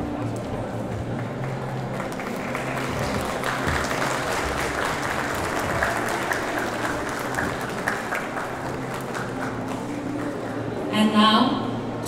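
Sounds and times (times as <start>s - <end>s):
audience applauding: 0.6s - 10.9s.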